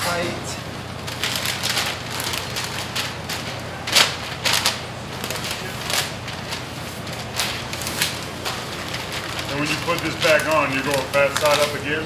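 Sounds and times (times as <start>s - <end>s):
paper crinkling and rustling: 0.8s - 12.0s.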